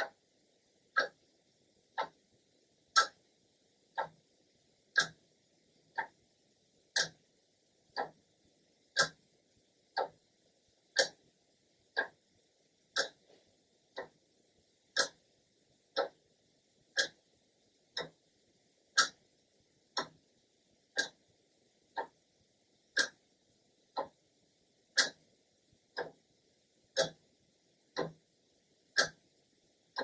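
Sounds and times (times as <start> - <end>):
clock ticking: 0.0 - 30.0.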